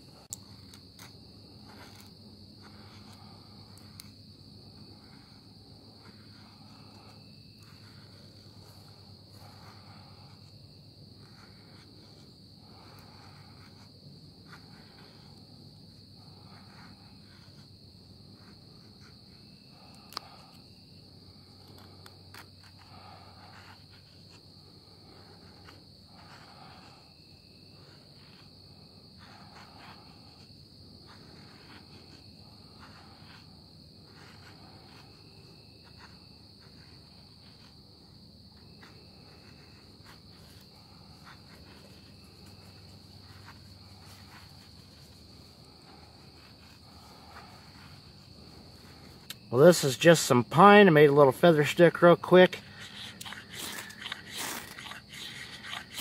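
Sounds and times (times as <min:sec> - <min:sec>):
knife shaving wood: 0:00.0 - 0:49.9, 0:52.4 - 0:56.0.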